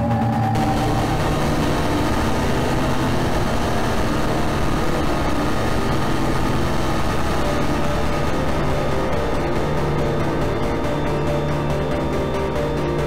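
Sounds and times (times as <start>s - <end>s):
harsh electronic drone: 0.0s - 13.0s
low hum: 0.6s - 13.0s.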